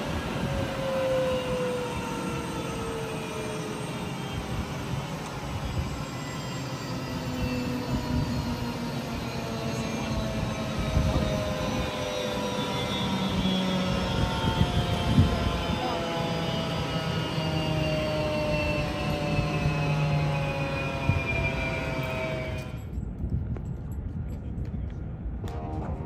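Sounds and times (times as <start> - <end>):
jet engine whine winding down: 0.0 - 23.0, 25.4 - 26.0
steady rumble and rush of air: 0.0 - 26.0.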